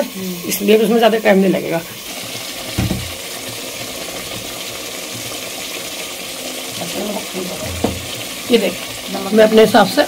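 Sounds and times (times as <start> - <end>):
chicken sizzling in a pot: 0.0 - 10.0.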